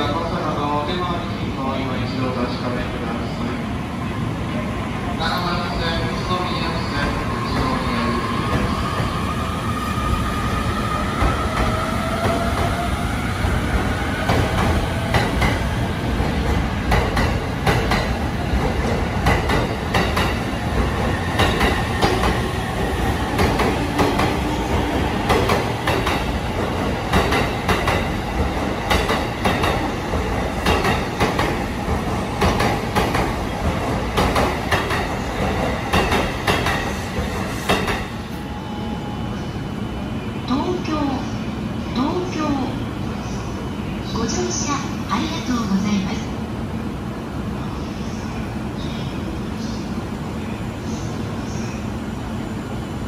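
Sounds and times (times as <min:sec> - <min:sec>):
electric train rumbling past: 0:00.0 - 0:53.0.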